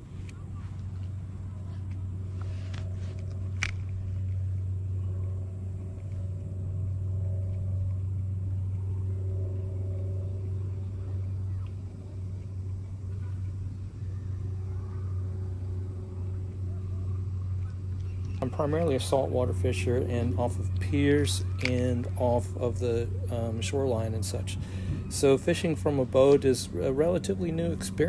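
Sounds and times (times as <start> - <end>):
low hum of kayak drive: 0.0 - 28.0.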